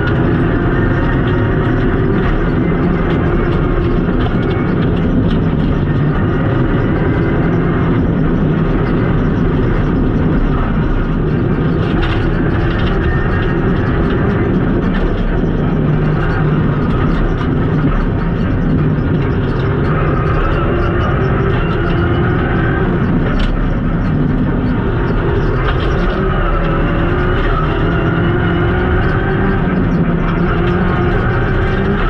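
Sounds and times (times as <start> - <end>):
car engine running hard: 0.0 - 32.0.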